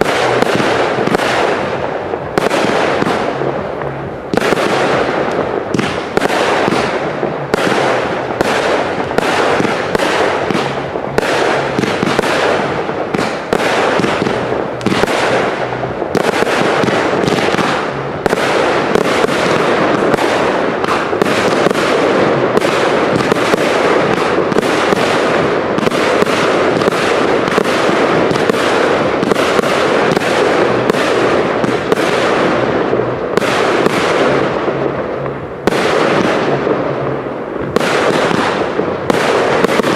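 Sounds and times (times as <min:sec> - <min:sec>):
firework cakes firing: 0:00.0 - 0:39.9.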